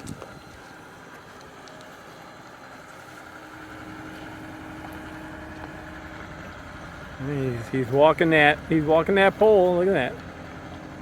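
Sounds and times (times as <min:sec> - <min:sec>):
loader engine running: 0:00.0 - 0:11.0.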